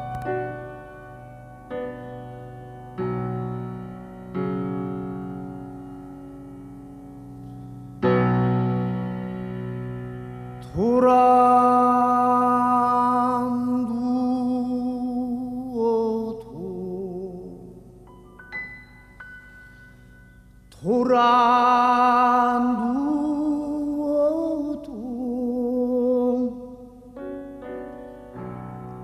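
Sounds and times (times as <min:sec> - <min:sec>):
piano chords: 0:00.0 - 0:29.0.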